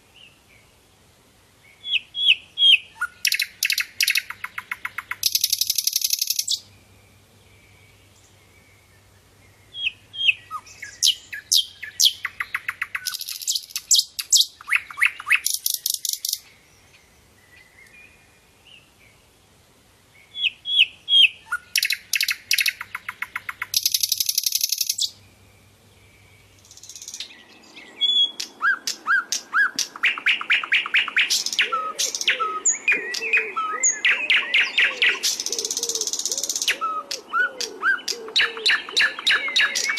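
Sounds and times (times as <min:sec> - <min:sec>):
background hiss: 0:00.0 - 0:39.9
bird singing trills and chirps: 0:01.6 - 0:19.3, 0:20.1 - 0:39.9.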